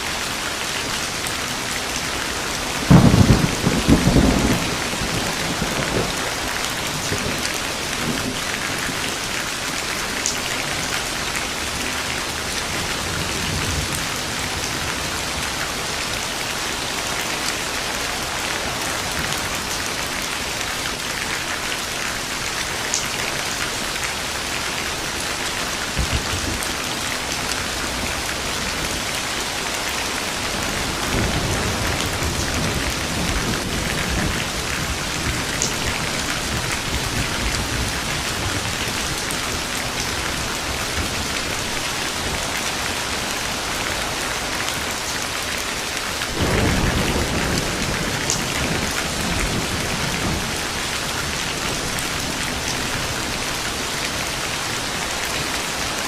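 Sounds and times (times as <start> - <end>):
heavy rain: 0.0 - 56.0
thunderclap and rumble: 1.2 - 21.4, 22.6 - 45.0, 46.2 - 54.3.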